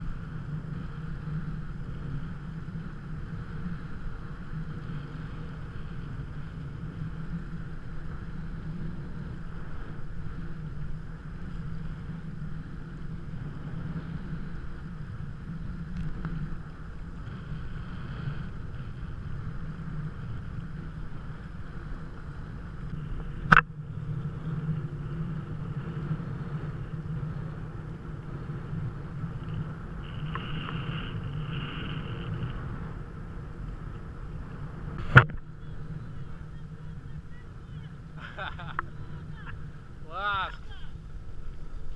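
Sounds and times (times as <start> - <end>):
wind: 0.0 - 41.9.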